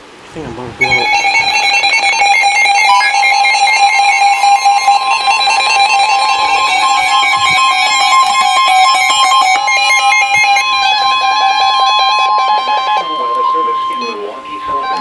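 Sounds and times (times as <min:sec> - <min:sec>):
steady warning alarm tone: 0:00.0 - 0:15.0
fast-stepping electronic beeps: 0:00.8 - 0:15.0.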